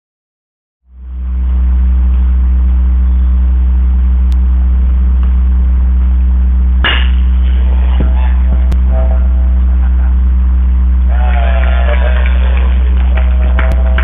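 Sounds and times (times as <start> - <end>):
loud steady low hum: 0.8 - 14.0.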